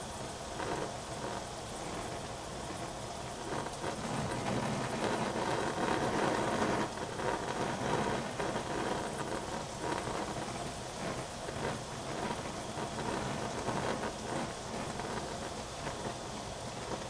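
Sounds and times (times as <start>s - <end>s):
food simmering in saucepan: 0.0s - 17.0s.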